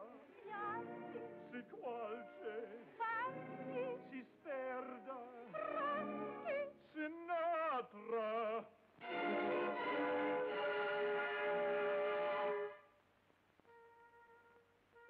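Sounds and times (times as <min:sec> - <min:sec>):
operatic duet singing: 0:00.0 - 0:12.6.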